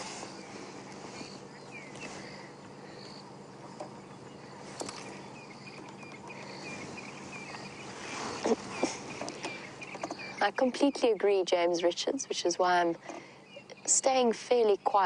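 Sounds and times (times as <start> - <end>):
insects chirping: 0.0 - 14.3
steady low hum: 0.0 - 15.0.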